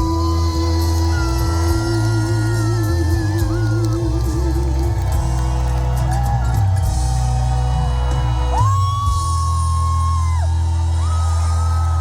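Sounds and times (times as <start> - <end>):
live band music over loudspeakers: 0.0 - 12.0.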